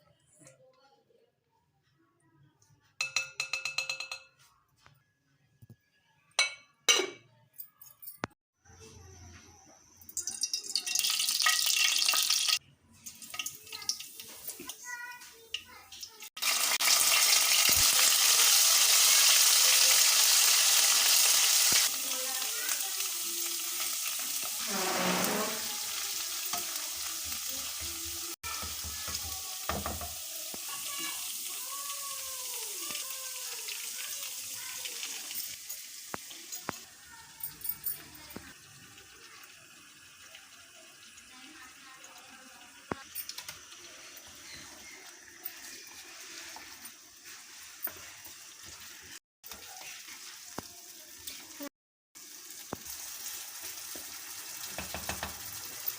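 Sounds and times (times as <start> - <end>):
food sizzling in oil: 10.0 - 55.9.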